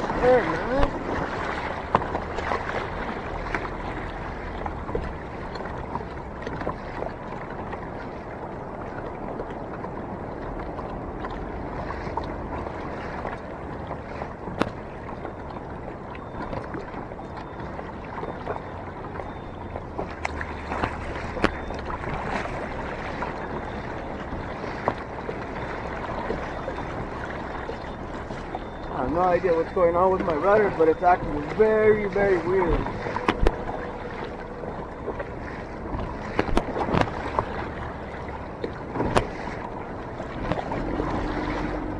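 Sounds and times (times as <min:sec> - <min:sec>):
water sloshing against kayak hull: 0:00.0 - 0:41.9.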